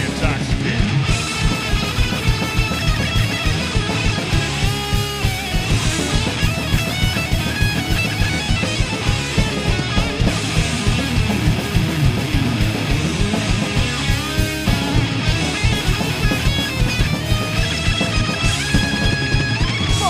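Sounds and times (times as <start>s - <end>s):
bass guitar: 0.0s - 20.0s
distorted electric guitars riffing: 0.0s - 20.0s
fast drums: 0.0s - 20.0s.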